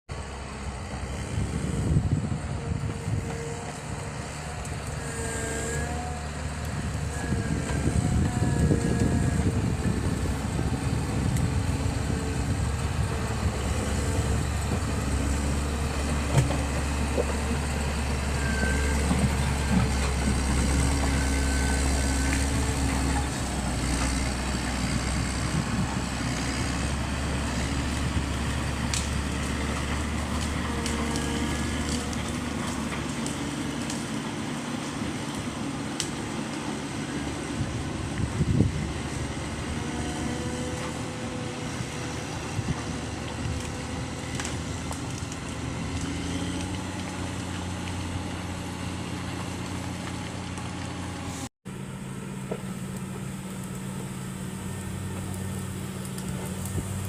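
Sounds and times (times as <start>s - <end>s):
diesel engine running under load: 0.1s - 57.0s.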